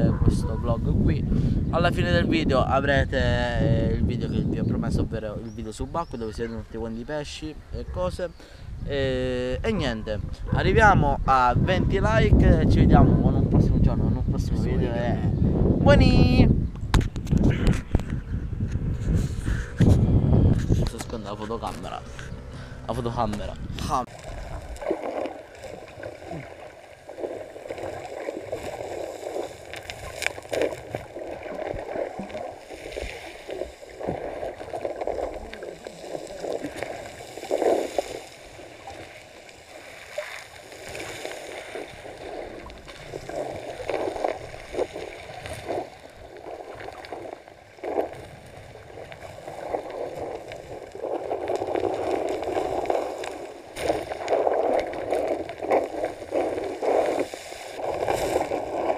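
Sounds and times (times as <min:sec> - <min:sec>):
muffled watery rumble: 0:08.8 - 0:58.9.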